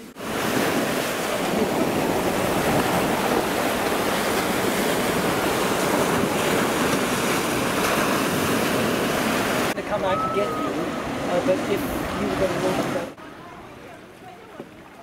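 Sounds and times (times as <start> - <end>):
waves washing over sand: 0.0 - 15.0.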